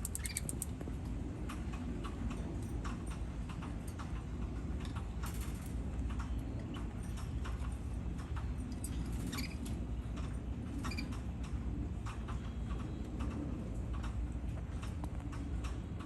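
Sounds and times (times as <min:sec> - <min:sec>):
canaries clicking and ticking: 0:00.0 - 0:16.0
steady low hum: 0:00.0 - 0:16.0.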